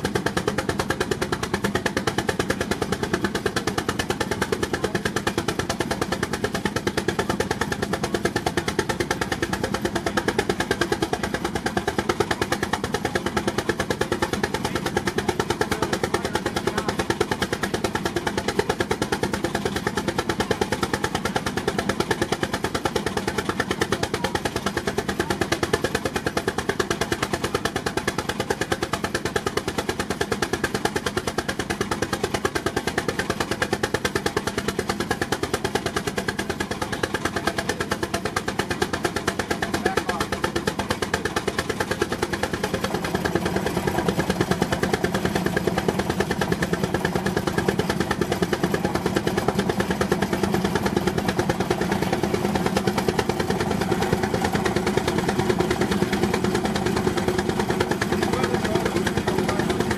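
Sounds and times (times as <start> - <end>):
steam engine exhaust beating: 0.0 - 59.9.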